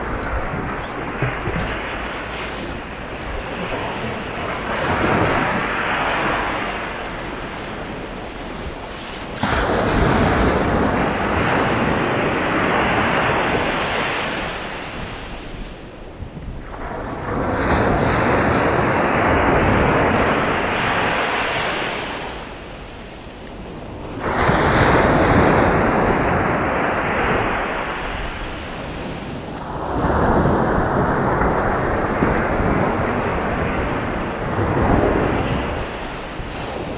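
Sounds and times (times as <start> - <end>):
sea waves breaking on beach: 0.0 - 36.9.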